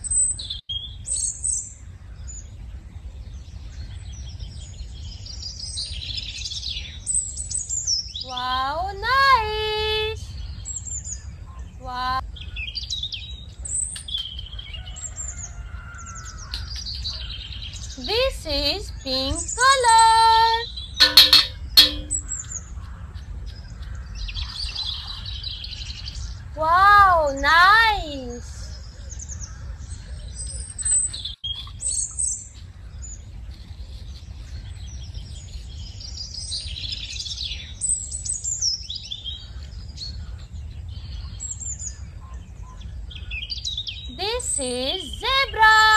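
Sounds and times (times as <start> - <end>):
birds chirping and singing: 0.0 - 45.9.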